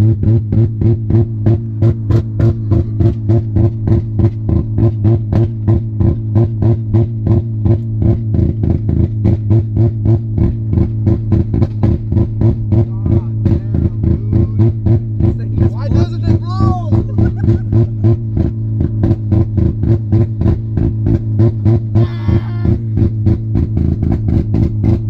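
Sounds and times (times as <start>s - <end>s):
heavy bass line: 0.0s - 25.0s.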